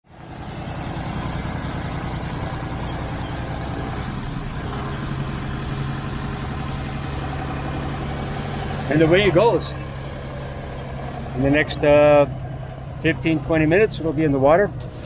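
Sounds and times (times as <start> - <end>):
tractor engine running under load: 0.0 - 15.0.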